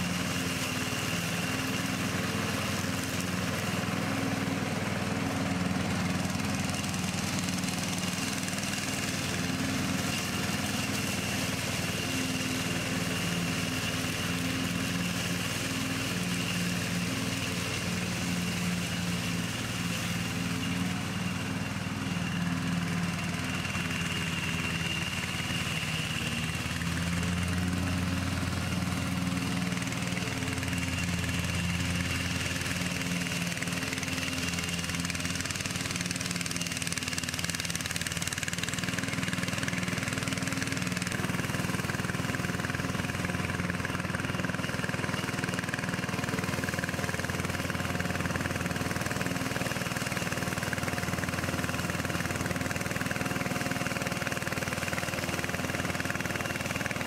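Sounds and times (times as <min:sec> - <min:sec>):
lawn tractor engine running: 0:00.0 - 0:57.0.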